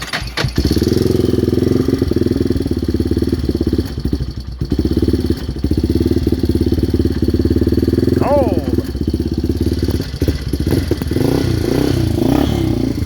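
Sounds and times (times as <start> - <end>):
motorcycle engine cold start: 0.0 - 7.9, 8.9 - 13.0.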